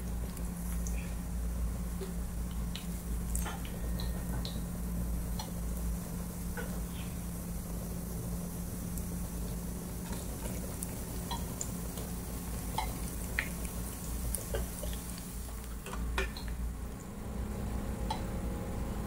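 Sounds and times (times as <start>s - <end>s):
hot oil sizzling in a frying pan: 0.5s - 16.5s.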